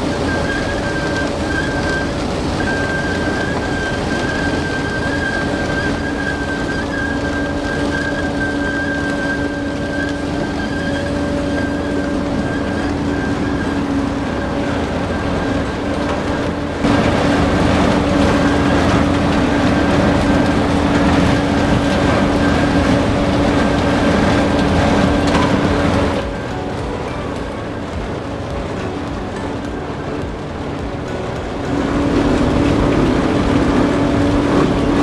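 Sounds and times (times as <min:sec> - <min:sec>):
harvester engine and machinery hum: 0:00.0 - 0:35.0.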